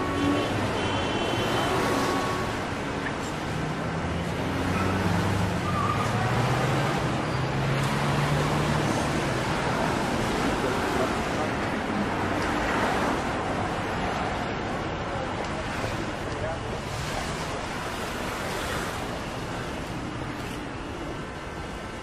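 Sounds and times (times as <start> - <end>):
road noise: 0.0 - 22.0.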